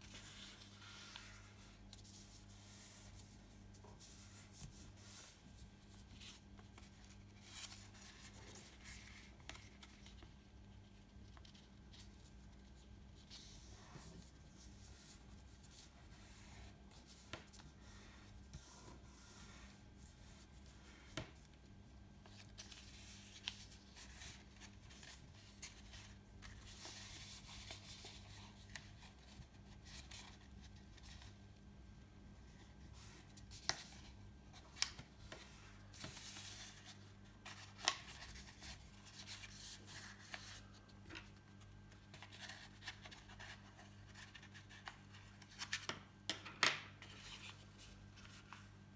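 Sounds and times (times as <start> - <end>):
paper rustling while folded: 0.0 - 21.1, 22.2 - 31.5, 32.5 - 46.0, 46.8 - 48.9.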